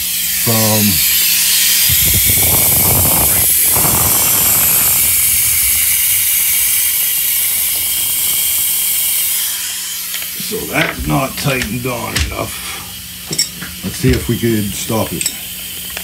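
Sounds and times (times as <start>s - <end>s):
high-pressure air hissing: 0.0s - 16.0s.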